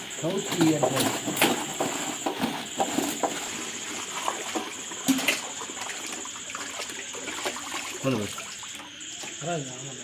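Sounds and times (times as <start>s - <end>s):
water sloshing in a steel pot: 0.0s - 9.8s.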